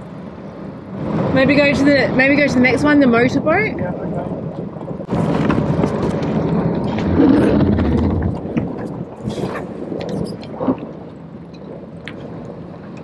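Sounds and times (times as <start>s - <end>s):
boat motor rumbling: 0.0s - 13.0s
wind on microphone: 0.0s - 13.0s.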